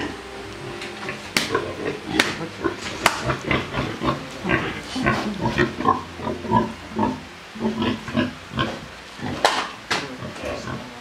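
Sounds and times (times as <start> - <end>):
pig grunting: 1.0 - 11.0.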